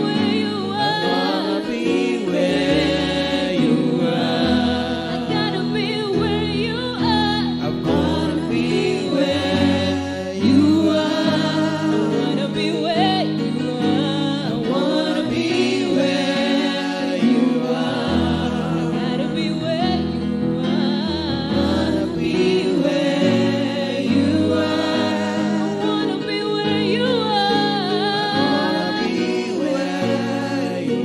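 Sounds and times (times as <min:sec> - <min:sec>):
man and woman singing: 0:00.0 - 0:31.0.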